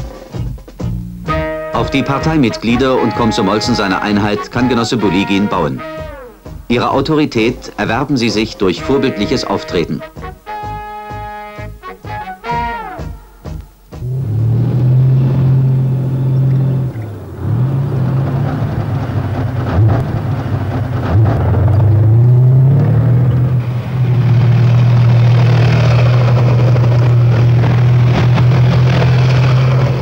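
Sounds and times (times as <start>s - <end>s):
clanking tracks: 0.0s - 30.0s
tank engine revving: 0.0s - 30.0s.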